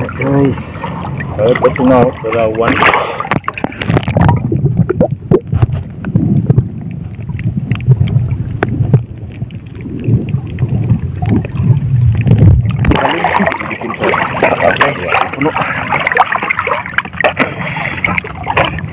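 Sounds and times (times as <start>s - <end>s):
underwater rumble of moving water: 0.0s - 18.9s
underwater clicks and knocks: 2.6s - 18.9s.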